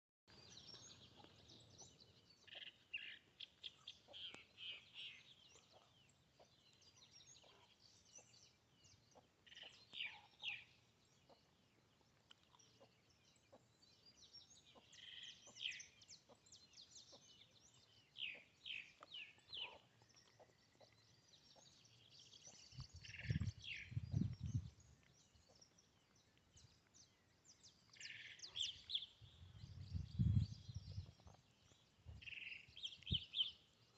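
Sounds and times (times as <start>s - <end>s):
birds chirping faintly: 0.3s - 33.9s.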